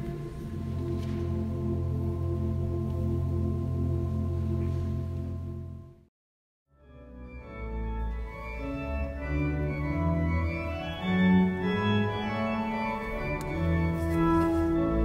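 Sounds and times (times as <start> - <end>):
pipe organ chords: 0.0 - 6.1, 6.8 - 15.0.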